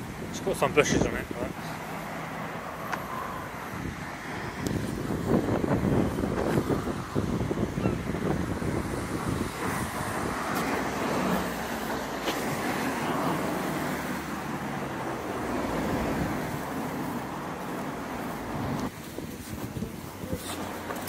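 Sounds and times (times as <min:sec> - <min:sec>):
cars driving past: 0:00.0 - 0:18.9.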